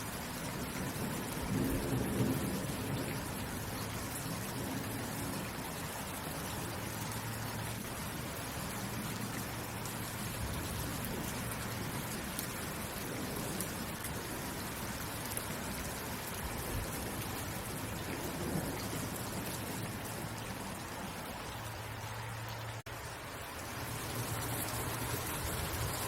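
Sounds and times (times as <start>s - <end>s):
rain hissing: 0.0s - 26.0s.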